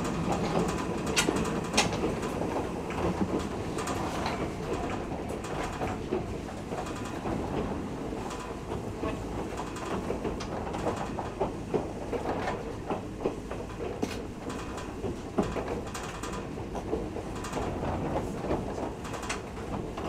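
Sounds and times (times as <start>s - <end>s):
track clicks and knocks: 0.0s - 20.0s
train wheels rumbling on rails: 0.0s - 20.0s.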